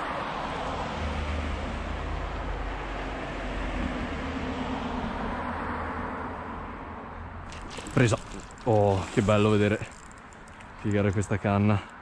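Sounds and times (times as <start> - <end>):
road traffic passing: 0.2 - 12.0.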